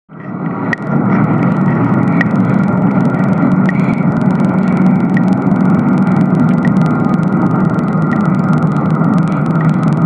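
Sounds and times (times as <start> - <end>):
radio static hiss with crackles: 0.1 - 10.0.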